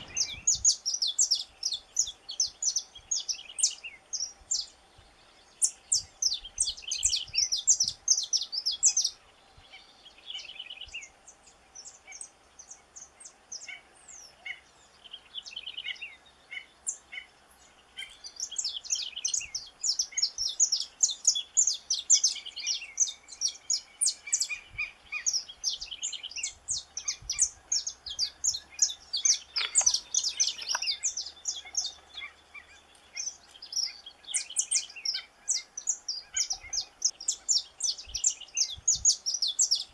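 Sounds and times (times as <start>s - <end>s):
finch singing: 0.0s - 11.1s, 11.8s - 39.9s.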